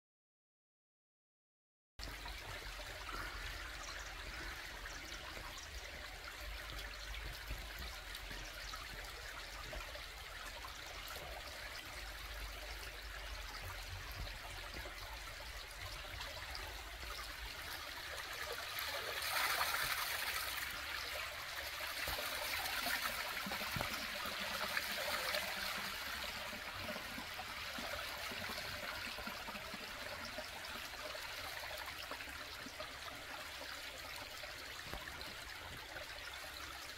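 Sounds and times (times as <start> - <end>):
stream trickling over rocks: 2.0 - 36.9.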